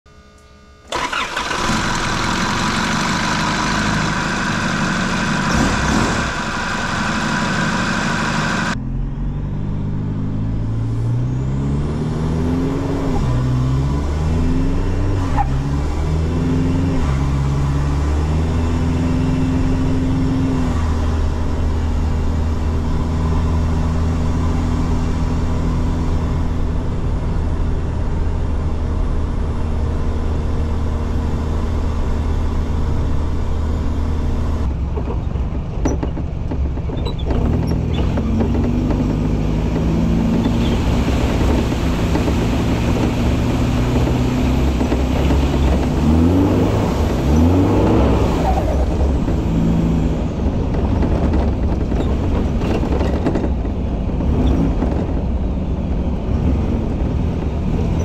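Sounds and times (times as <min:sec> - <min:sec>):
engine revving: 0:00.9 - 0:28.6, 0:37.1 - 0:58.0.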